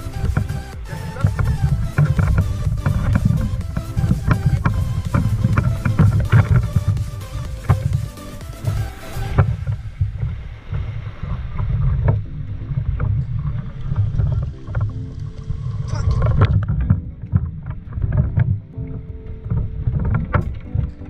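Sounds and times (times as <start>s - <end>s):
clicks and knocks underwater: 0.0s - 21.0s
muffled underwater water rumble: 0.0s - 21.0s.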